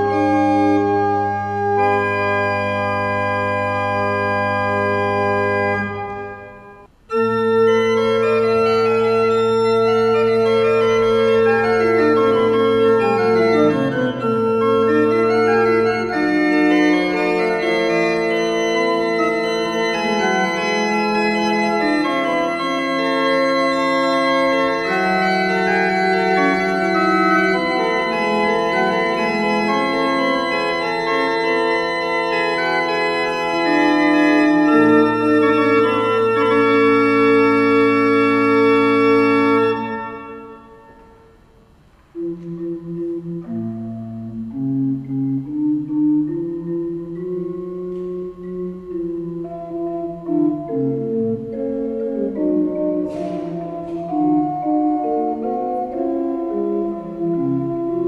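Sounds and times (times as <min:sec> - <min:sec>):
organ chords with note runs: 0:00.0 - 0:41.3, 0:42.1 - 0:58.0.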